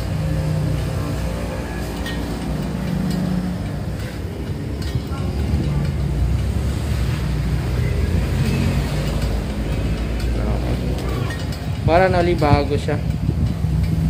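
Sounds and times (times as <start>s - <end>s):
metal lathe rumbling: 0.0s - 14.0s.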